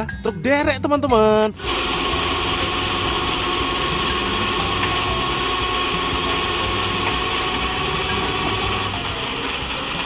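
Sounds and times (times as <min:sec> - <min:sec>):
diesel engine running: 0:01.6 - 0:10.0
winch whine: 0:01.6 - 0:10.0.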